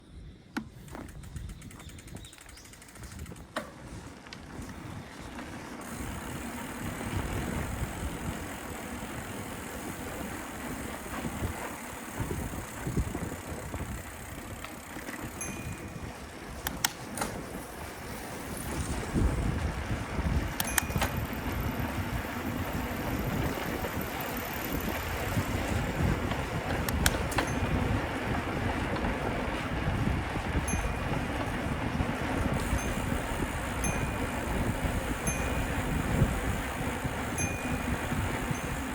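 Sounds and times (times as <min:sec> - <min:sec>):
wind on microphone: 0:00.0 - 0:38.9
bicycle tyre rumble: 0:00.1 - 0:38.9
bicycle clicks and rattles: 0:00.6 - 0:38.9.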